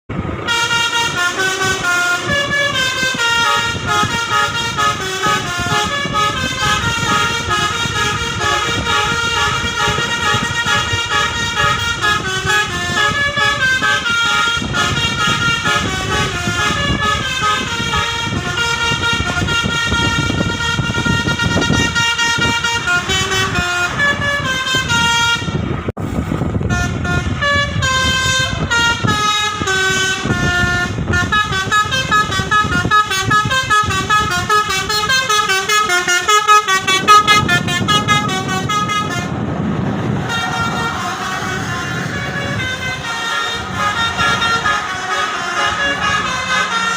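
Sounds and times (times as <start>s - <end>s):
bus engines rumbling: 0.1s - 46.9s
multi-tone air horns playing melodies: 0.4s - 25.9s, 26.6s - 46.9s.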